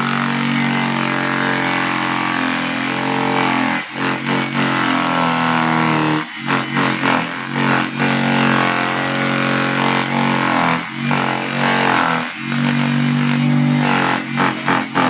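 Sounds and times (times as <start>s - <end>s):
electric grass chopper humming: 0.0s - 15.0s.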